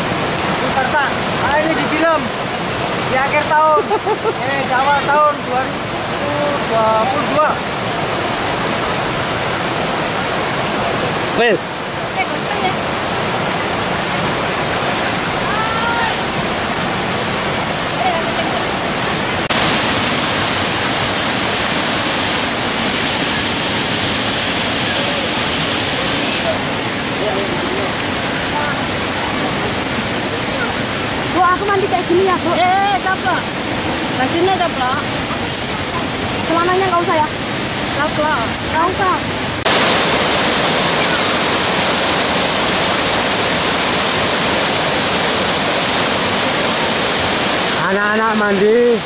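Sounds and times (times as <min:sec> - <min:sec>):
river water rushing over rocks: 0:00.0 - 0:49.0.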